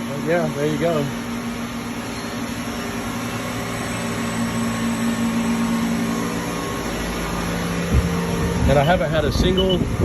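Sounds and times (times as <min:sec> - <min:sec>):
machining center running: 0:00.0 - 0:10.0
low hum tone: 0:01.3 - 0:10.0.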